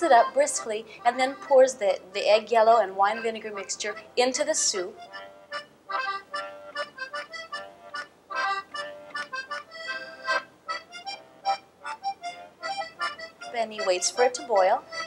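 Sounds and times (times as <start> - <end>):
accordion music: 0.0 - 15.0.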